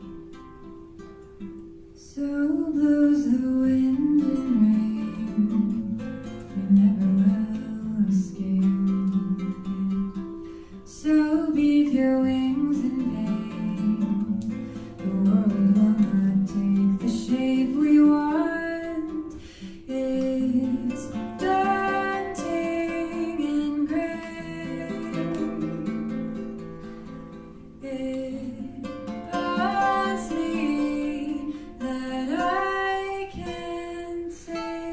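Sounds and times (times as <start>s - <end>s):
person singing: 2.0s - 26.3s, 27.8s - 34.9s
plucked string accompaniment: 2.6s - 34.9s.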